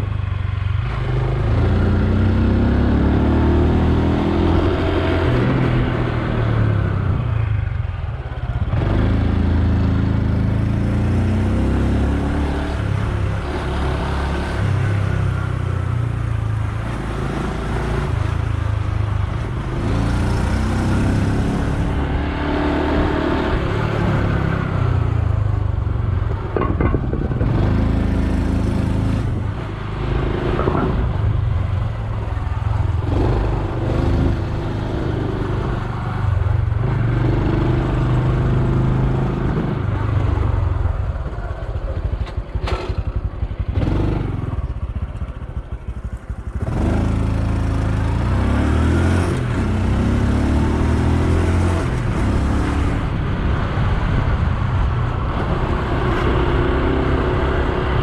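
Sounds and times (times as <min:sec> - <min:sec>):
motorcycle engine revving: 0:00.6 - 0:07.7, 0:08.5 - 0:41.1, 0:41.8 - 0:58.0.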